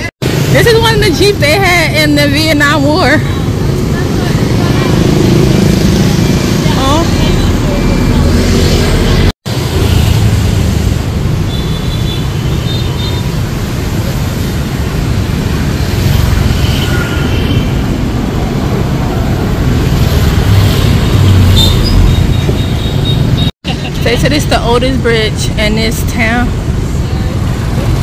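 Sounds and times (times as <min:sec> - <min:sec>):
city traffic noise: 0:00.0 - 0:28.0
motor scooters passing: 0:00.3 - 0:25.5.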